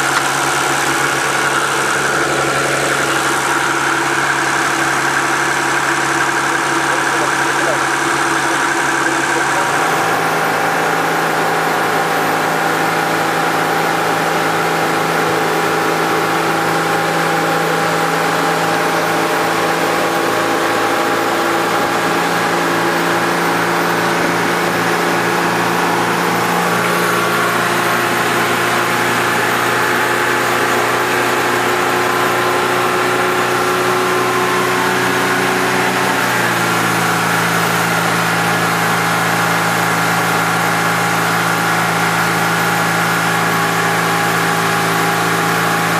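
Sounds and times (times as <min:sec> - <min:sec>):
boat diesel engine running: 0:00.0 - 0:45.9.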